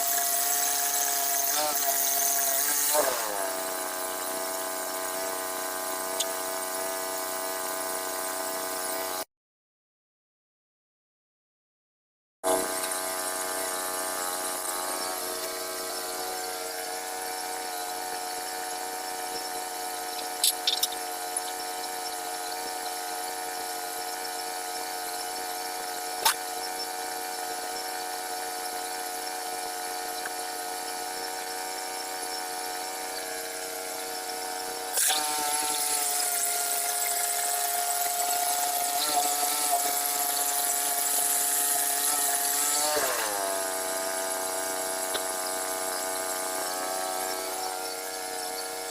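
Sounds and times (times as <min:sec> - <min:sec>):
small gasoline engine running: 0:00.0 - 0:09.3, 0:12.4 - 0:48.9.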